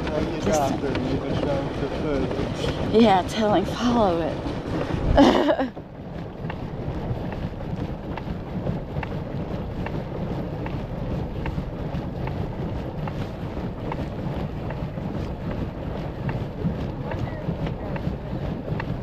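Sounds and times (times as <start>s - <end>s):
water moving past hull: 0.0s - 19.0s
wind buffeting microphone: 0.0s - 19.0s.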